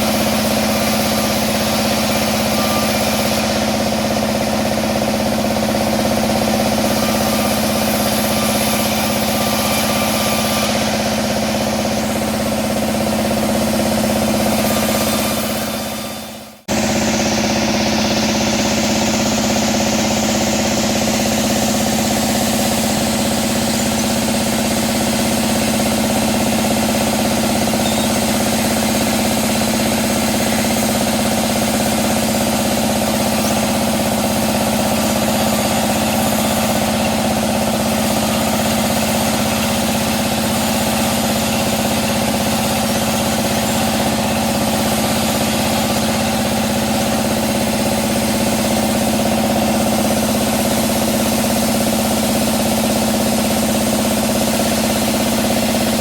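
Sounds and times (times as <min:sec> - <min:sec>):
band saw machinery running: 0:00.0 - 0:56.0.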